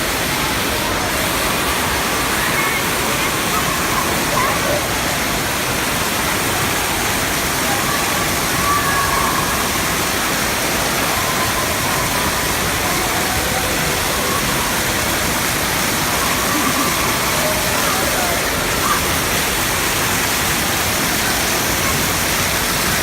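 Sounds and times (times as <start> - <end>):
faint distant voices: 0.0 - 23.0
splashing water rushing: 0.0 - 23.0.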